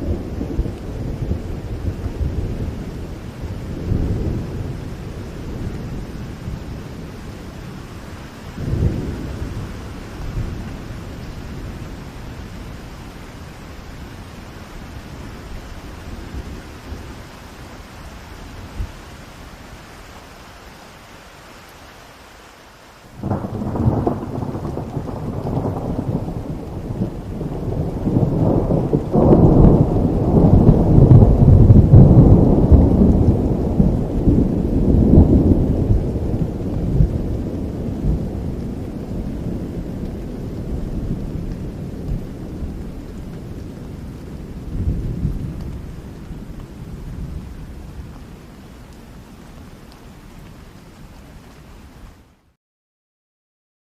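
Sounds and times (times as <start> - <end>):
thunder rumbling: 0.0 - 19.3, 23.1 - 50.4
steady rain: 0.0 - 52.6.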